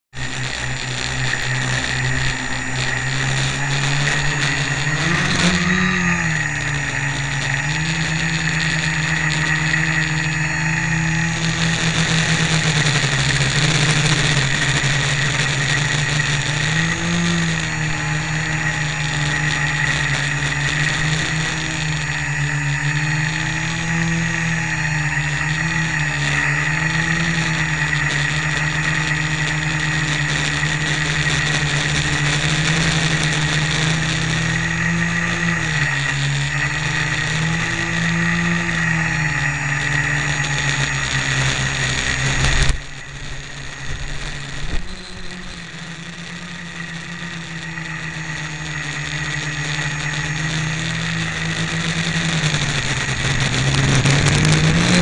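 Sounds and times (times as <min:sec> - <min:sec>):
drone motors and propellers humming: 0:00.1 - 0:55.0.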